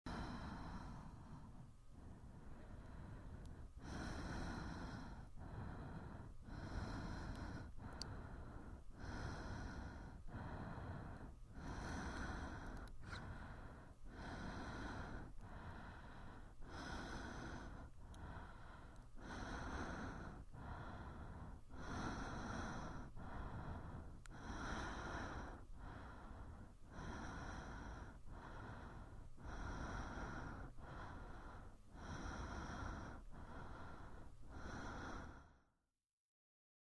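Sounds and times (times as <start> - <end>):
person breathing: 0.1 - 35.7.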